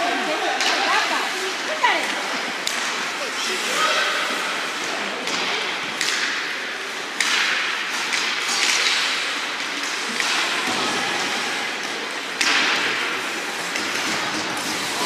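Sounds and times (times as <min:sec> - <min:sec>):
skates scraping ice: 0:00.0 - 0:15.0.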